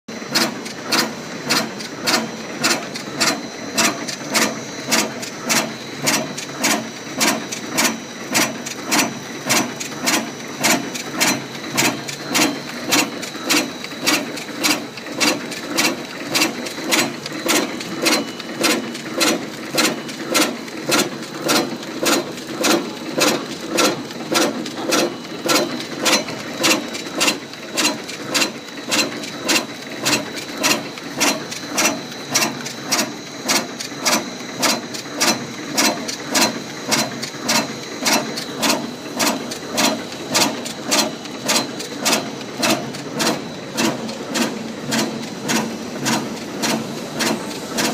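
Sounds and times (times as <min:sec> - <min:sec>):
packing machine clattering: 0:00.3 - 0:47.9.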